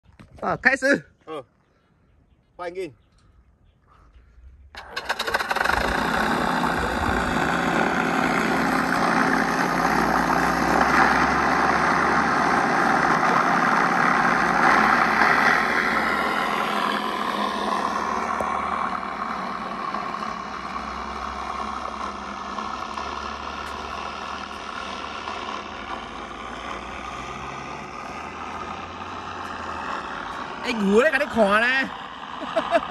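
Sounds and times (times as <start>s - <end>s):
electric motor and propeller: 4.7s - 32.9s
simulated piston engine sound: 4.8s - 32.4s.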